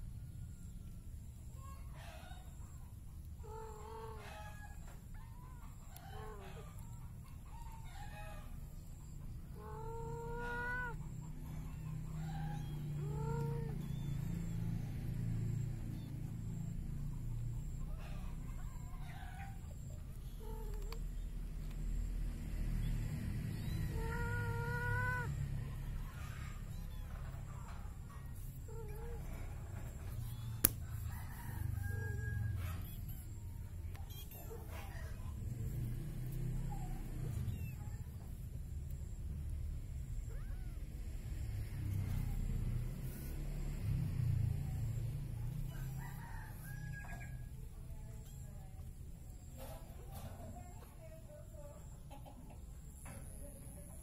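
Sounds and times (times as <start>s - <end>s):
cats purring rumble: 0.0s - 54.0s.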